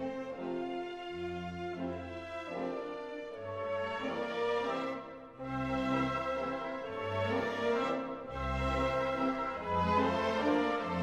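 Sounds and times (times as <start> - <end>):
orchestral strings and brass: 0.0 - 11.0.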